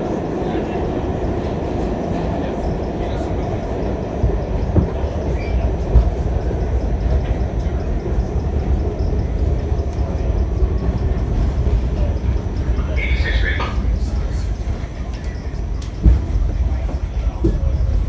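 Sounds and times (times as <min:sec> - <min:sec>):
subway wheels rumbling on rail: 0:00.0 - 0:18.0.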